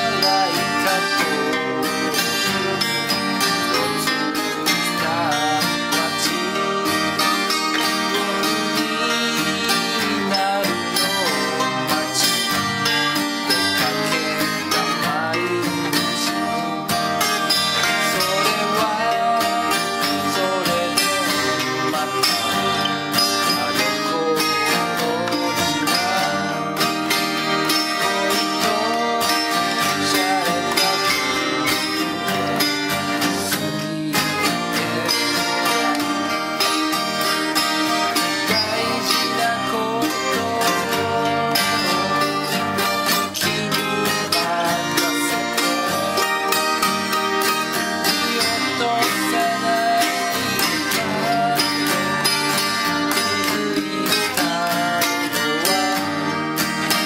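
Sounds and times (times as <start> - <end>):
acoustic guitars playing: 0.0 - 57.0
man singing: 0.0 - 57.0.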